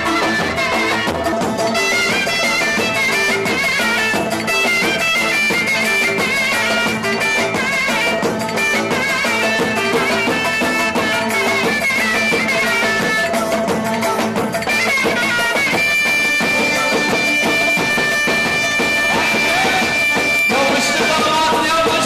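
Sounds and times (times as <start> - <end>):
shrill reed pipe playing: 0.0 - 13.8, 14.6 - 22.0
drum beating: 0.0 - 22.0.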